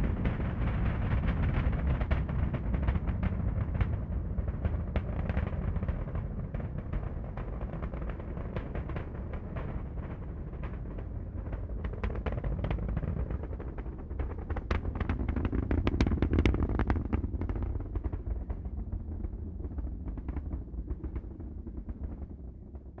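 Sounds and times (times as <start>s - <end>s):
rocket exhaust rumble with crackling: 0.0s - 23.0s.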